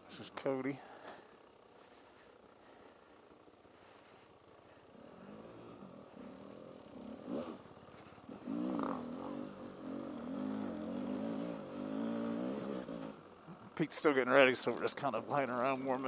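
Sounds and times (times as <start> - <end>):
vehicle engine idling: 0.7 - 16.0.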